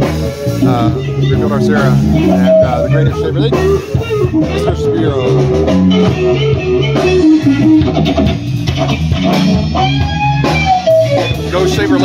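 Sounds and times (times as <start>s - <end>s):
bass guitar: 0.0s - 12.0s
drums: 0.0s - 12.0s
electric guitar: 0.0s - 12.0s.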